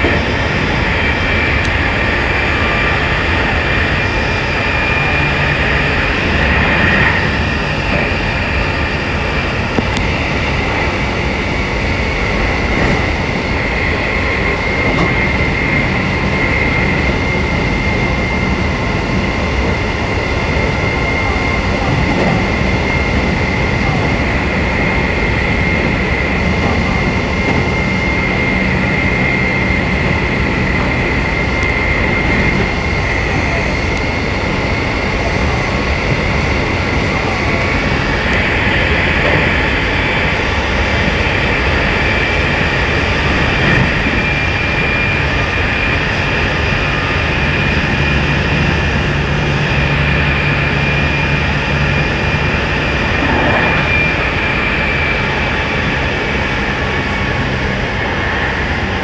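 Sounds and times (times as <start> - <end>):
high train whine: 0.0 - 59.0
train wheels rumbling on track: 0.0 - 59.0.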